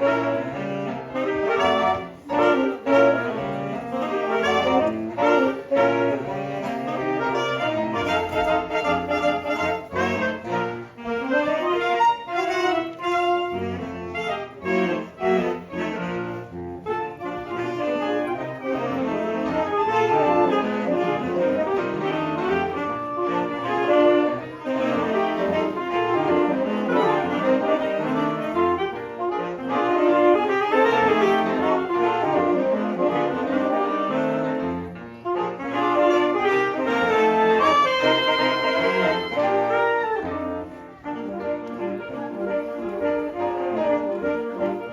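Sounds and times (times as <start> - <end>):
saxophone ensemble playing: 0.0 - 44.9.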